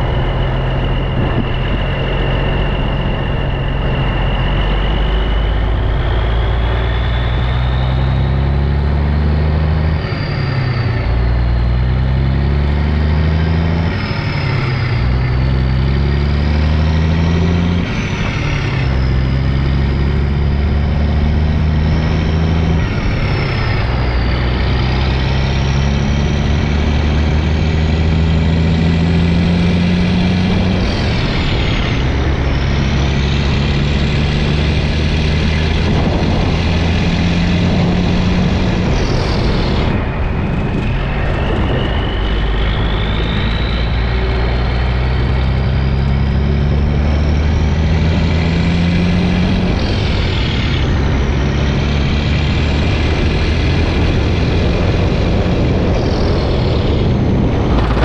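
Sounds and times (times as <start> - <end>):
truck diesel engine accelerating: 0.0 - 58.0.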